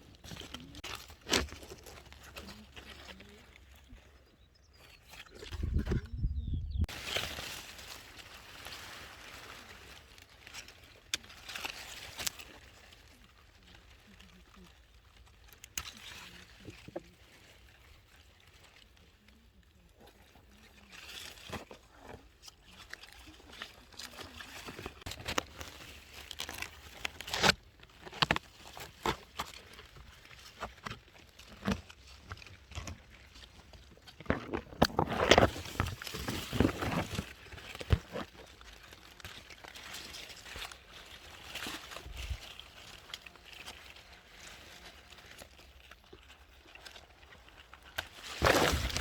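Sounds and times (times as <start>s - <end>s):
leaves rustling and crunching: 0.0s - 6.0s, 6.9s - 49.0s.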